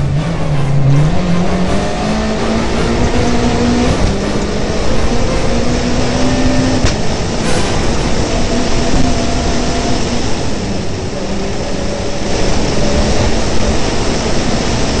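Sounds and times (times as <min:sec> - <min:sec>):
car engine revving through gears: 0:00.0 - 0:15.0
tyre and wind noise: 0:00.0 - 0:15.0.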